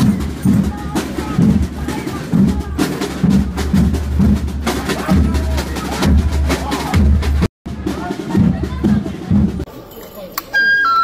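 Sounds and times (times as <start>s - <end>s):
drums and percussion beat: 0.0s - 11.0s.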